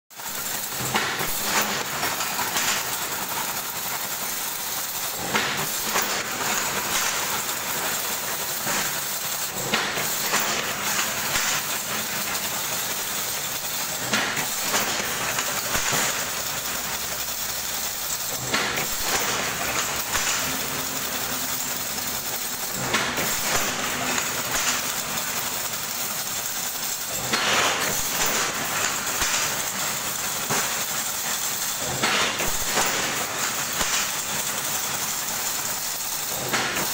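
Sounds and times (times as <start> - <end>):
wire mesh weaving machine clattering: 0.1 - 36.9.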